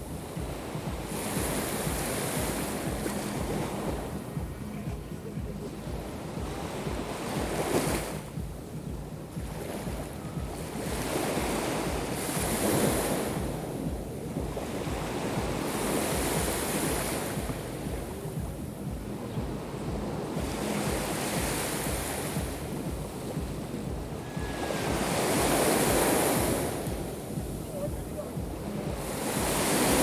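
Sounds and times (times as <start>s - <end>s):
waves breaking on shore: 0.0s - 30.0s
wind buffeting microphone: 0.0s - 30.0s.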